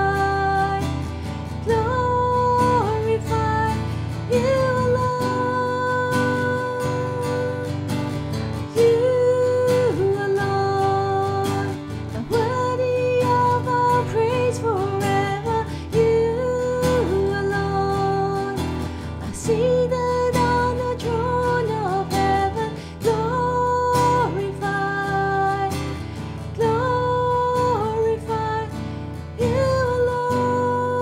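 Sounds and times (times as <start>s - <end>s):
acoustic guitar: 0.0s - 31.0s
woman singing: 0.0s - 31.0s.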